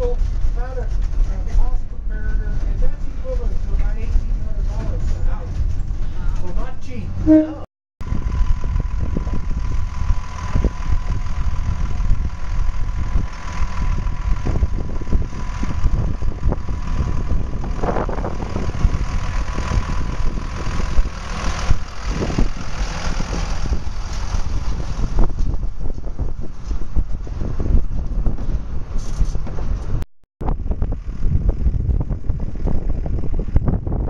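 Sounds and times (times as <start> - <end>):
railcar engine low rumble: 0.0 - 34.0.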